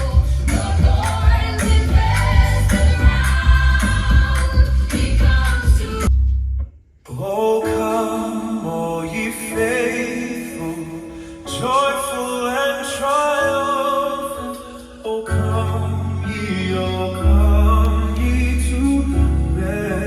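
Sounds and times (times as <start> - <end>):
recorded music with singing: 0.0 - 20.0.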